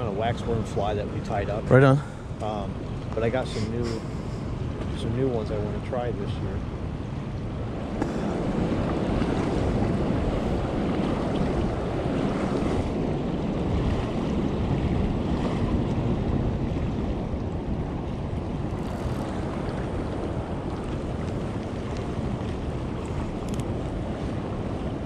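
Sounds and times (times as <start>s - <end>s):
river current rushing: 0.0s - 5.9s, 7.6s - 25.0s
wind buffeting microphone: 0.0s - 25.0s.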